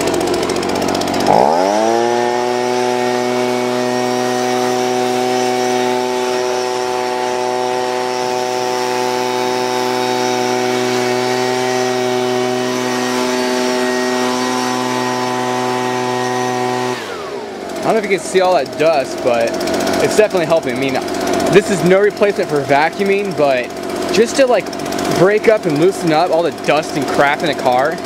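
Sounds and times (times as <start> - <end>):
leaf blower engine running: 0.0 - 28.0.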